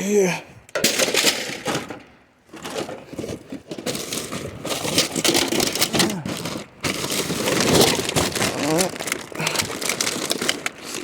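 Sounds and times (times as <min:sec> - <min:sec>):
junk clattering and rustling: 0:00.7 - 0:11.0.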